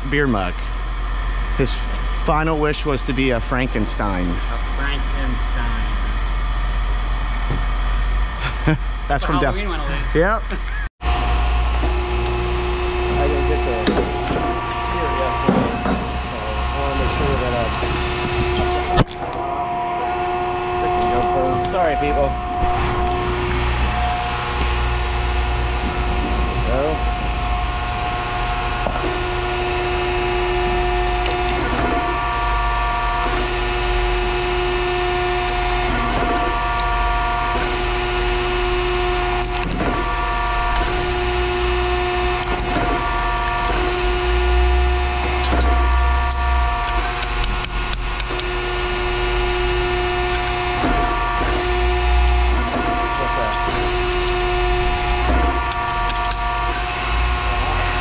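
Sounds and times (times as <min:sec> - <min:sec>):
machinery humming and whining: 0:00.0 - 0:58.0.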